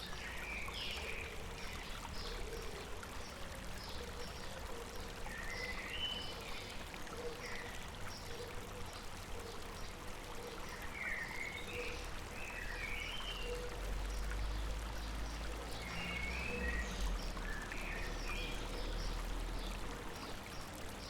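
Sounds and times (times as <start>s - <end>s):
river water running over rocks: 0.0s - 21.0s.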